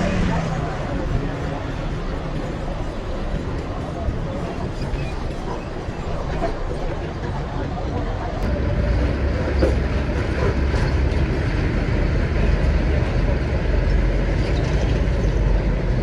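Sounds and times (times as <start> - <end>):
heavy vehicle engine rumble: 0.0 - 16.0.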